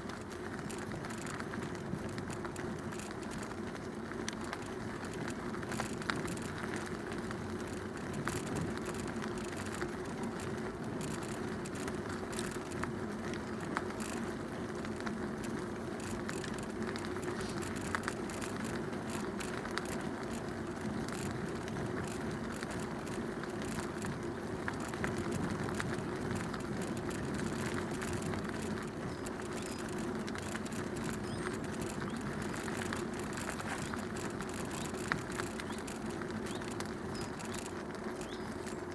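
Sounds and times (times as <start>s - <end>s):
bicycle tyre noise on path: 0.0s - 38.9s
small crackles and ticks: 0.0s - 38.9s.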